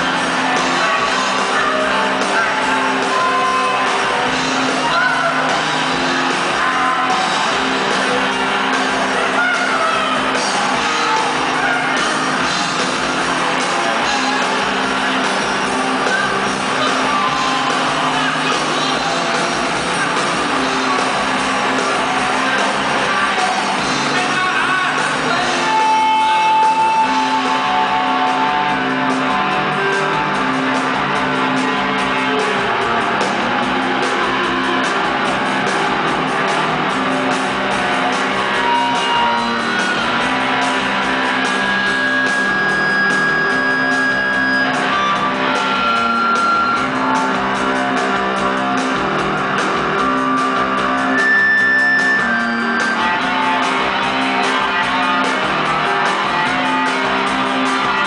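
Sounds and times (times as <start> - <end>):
drums: 0.0 - 58.0
electric guitar: 0.0 - 58.0.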